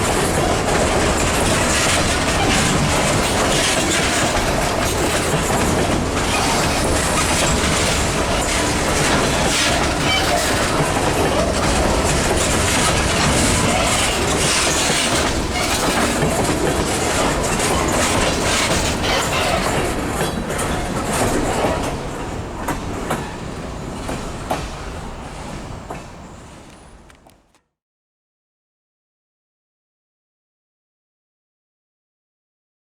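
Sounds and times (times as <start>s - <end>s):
train wheels clattering on rails: 0.0s - 27.6s.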